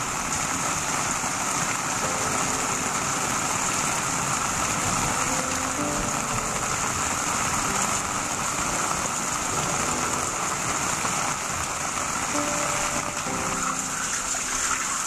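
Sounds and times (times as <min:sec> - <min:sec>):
steady rain falling: 0:00.0 - 0:15.0
water flowing in a channel: 0:00.0 - 0:15.0.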